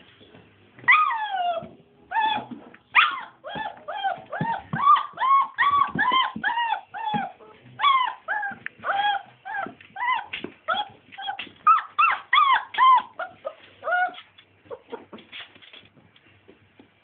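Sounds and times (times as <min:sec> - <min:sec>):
puppies yelping and whining: 0:00.8 - 0:15.2.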